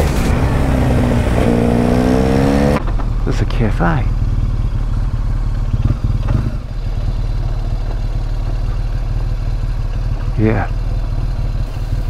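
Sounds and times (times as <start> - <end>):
engine clatter: 0.0 - 12.0
motorcycle engine running: 0.0 - 12.0.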